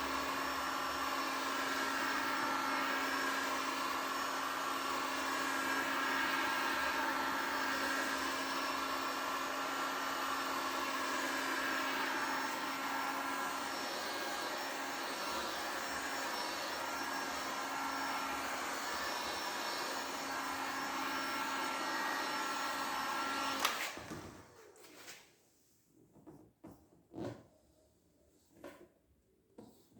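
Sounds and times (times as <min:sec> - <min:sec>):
electric tool whirring: 0:00.0 - 0:24.2.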